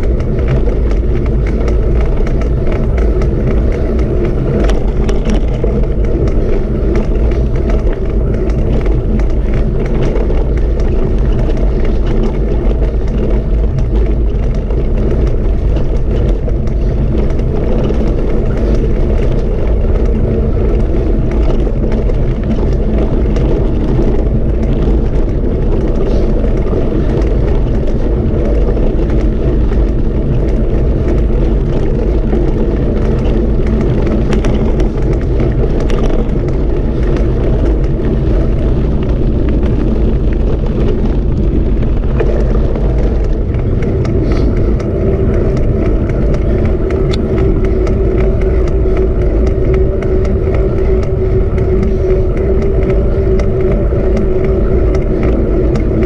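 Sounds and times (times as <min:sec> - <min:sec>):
loud low rumble: 0:00.0 - 0:56.0.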